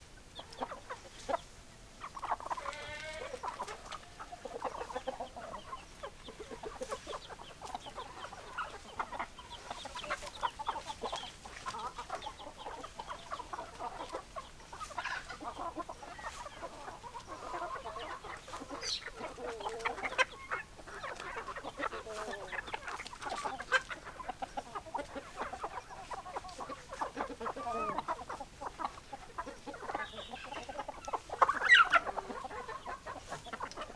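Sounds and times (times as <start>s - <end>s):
hens clucking: 0.0s - 33.9s.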